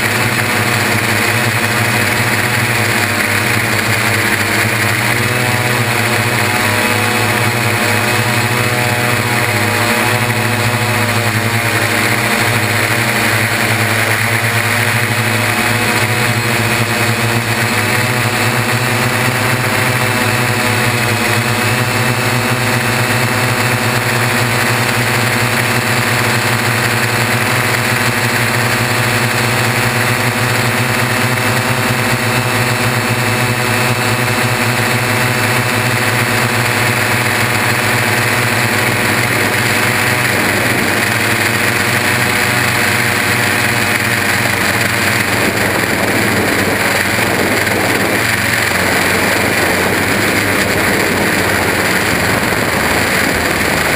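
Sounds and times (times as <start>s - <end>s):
drone propellers droning: 0.0s - 53.9s.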